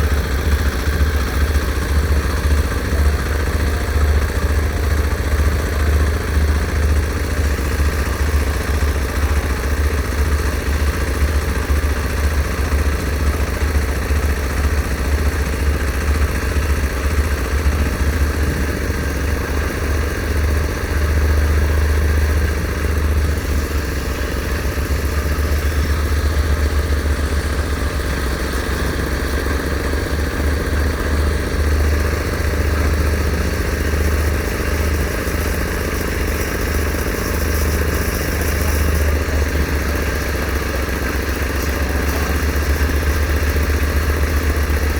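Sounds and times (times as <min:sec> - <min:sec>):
heavy machinery engine humming: 0:00.0 - 0:44.9.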